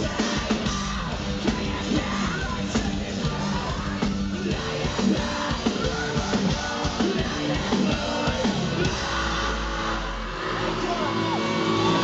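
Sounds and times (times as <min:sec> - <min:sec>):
pounding drums: 0:00.0 - 0:10.0
distorted electric guitars: 0:00.0 - 0:12.0.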